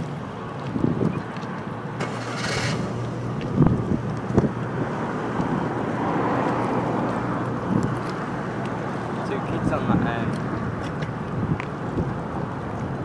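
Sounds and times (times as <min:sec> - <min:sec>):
wind buffeting microphone: 0:00.0 - 0:01.4, 0:02.8 - 0:13.0.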